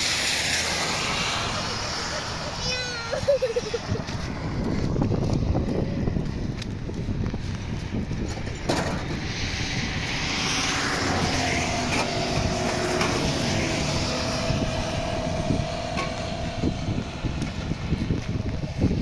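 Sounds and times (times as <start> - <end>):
vehicle passing on wet road: 0.0 - 6.2, 9.0 - 19.0.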